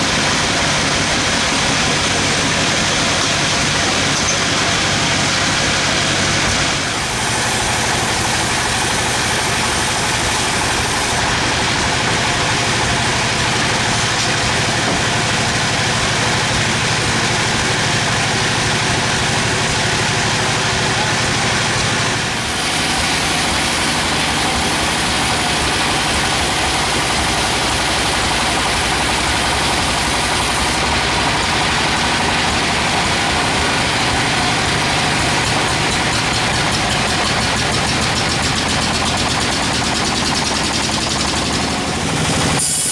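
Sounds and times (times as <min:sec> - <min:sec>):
low engine hum: 0:00.0 - 0:42.7
bandsaw loud steady hiss: 0:00.0 - 0:42.9.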